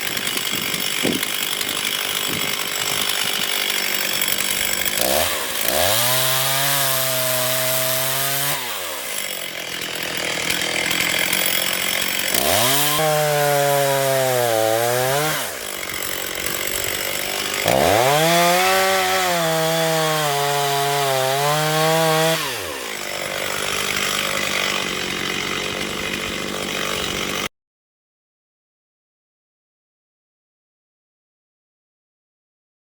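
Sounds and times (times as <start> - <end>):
chainsaw revving and idling: 0.0 - 27.5.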